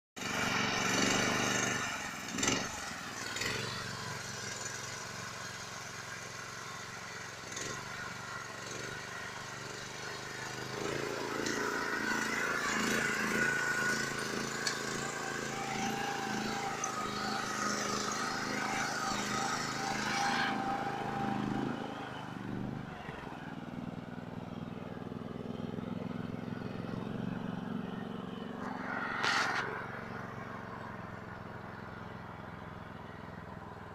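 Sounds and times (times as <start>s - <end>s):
small vehicle engine revving: 0.2s - 33.9s.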